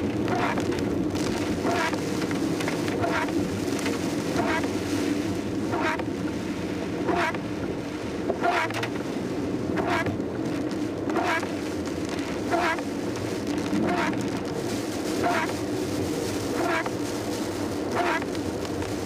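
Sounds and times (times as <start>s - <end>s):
heavy rain: 0.0s - 19.0s
tyres on a wet road: 0.0s - 19.0s
windshield wipers swishing: 0.2s - 6.2s, 9.7s - 19.0s.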